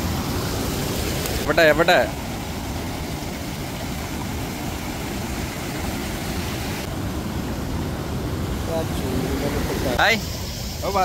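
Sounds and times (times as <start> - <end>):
water flowing over weir: 0.0 - 11.0.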